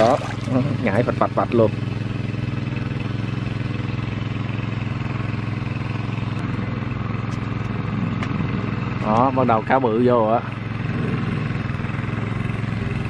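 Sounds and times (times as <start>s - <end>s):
motor humming steadily: 0.0s - 13.0s.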